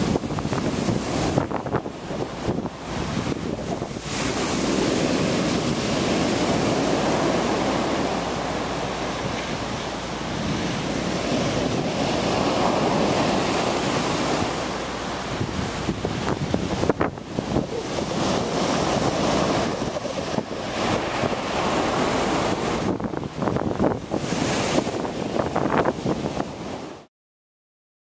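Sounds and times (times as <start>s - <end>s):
heavy waves breaking on rocks: 0.0s - 27.1s
wind on microphone: 0.0s - 27.1s.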